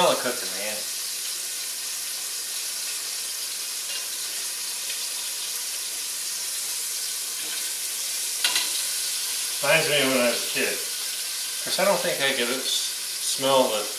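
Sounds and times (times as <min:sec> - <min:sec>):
chicken frying in oil: 0:00.0 - 0:13.9.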